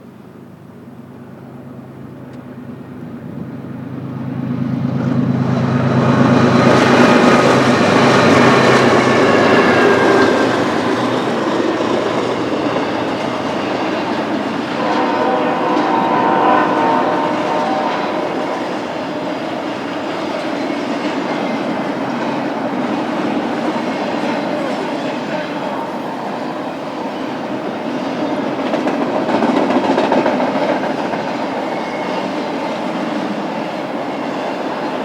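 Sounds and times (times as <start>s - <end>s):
diesel locomotives: 0.0s - 35.0s
steel wheels rolling on rail: 0.2s - 35.0s.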